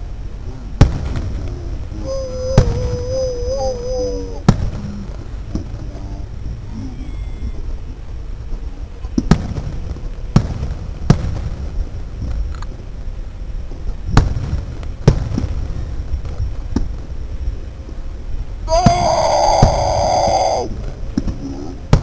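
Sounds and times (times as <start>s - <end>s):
continuous low rumble: 0.0s - 22.0s.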